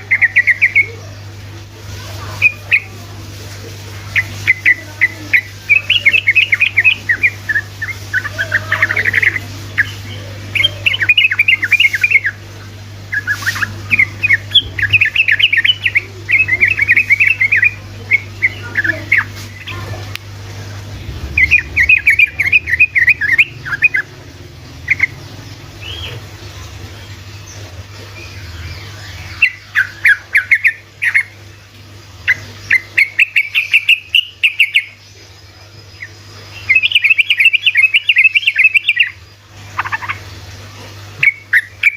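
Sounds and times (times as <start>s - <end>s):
bird singing rattling song: 0.0s - 1.0s, 4.1s - 12.4s, 13.1s - 19.8s, 21.0s - 40.3s, 41.2s - 41.9s
steady low hum: 0.0s - 41.9s.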